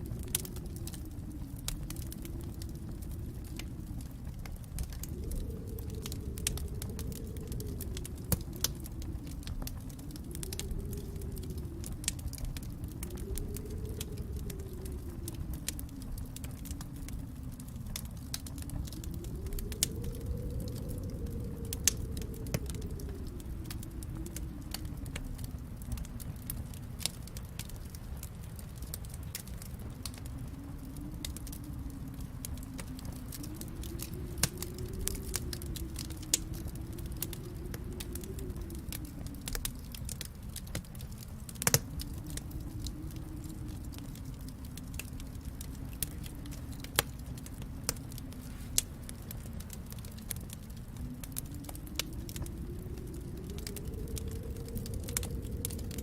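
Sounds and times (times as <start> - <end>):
storm wind: 0.0 - 56.0
wood fire crackling: 0.0 - 56.0.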